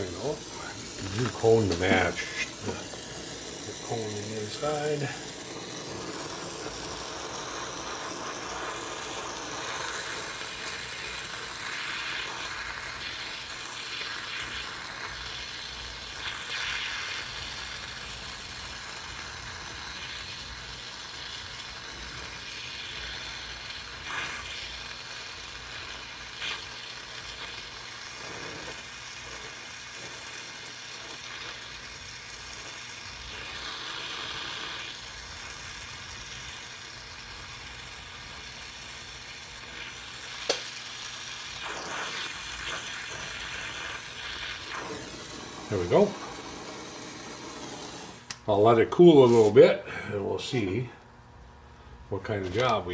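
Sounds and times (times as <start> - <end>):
torch flame hissing: 0.0 - 51.0.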